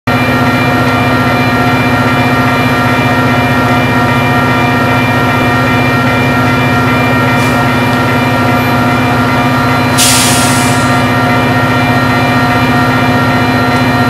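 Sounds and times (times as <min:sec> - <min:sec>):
diesel locomotive engine throbbing: 0:00.1 - 0:14.0.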